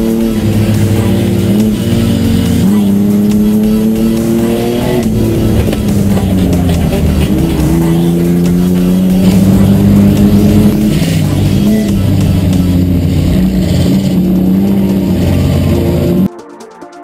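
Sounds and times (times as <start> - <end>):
race car engine from inside: 0.0 - 16.3.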